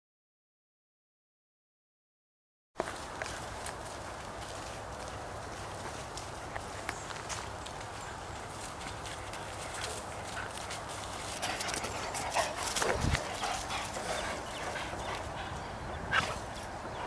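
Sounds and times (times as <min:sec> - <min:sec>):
dog paws running on grass: 0:02.8 - 0:17.0.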